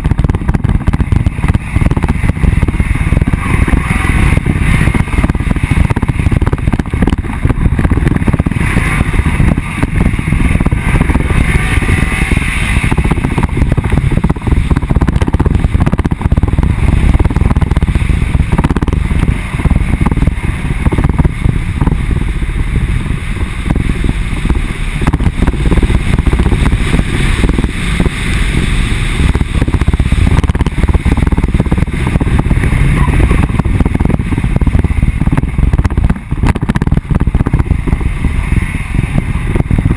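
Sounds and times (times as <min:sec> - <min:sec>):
wind and wheels on dirt: 0:00.0 - 0:39.9.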